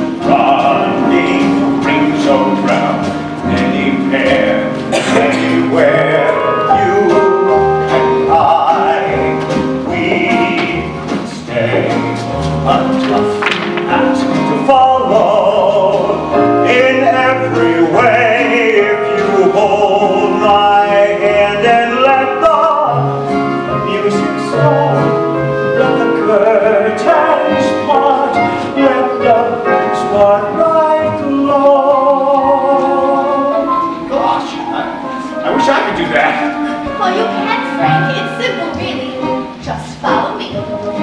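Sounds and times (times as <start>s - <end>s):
show tune band music: 0.0s - 41.0s.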